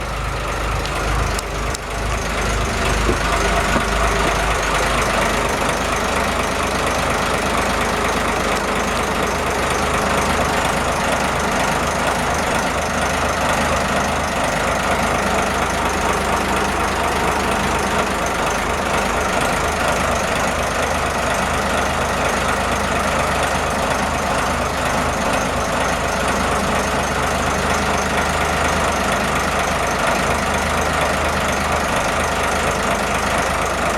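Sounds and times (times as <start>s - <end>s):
boat engine idling: 0.0s - 33.9s.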